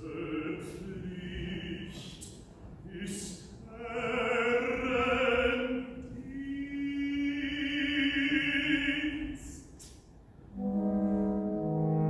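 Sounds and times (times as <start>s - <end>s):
operatic voice singing: 0.0s - 9.9s.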